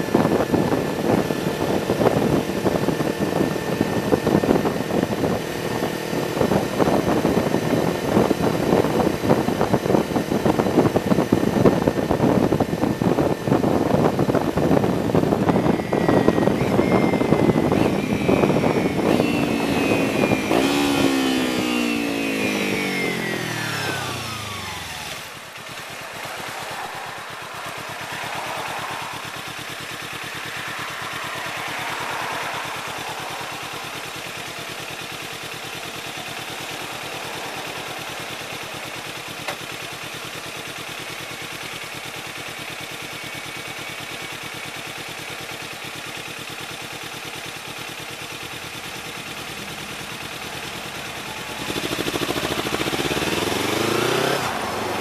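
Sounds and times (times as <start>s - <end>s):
motorcycle engine idling: 0.0s - 55.0s
motorcycle revving: 0.0s - 55.0s.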